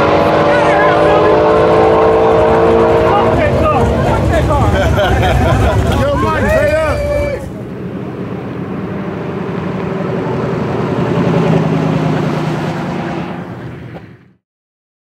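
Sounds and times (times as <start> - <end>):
car engine running: 0.0 - 14.4.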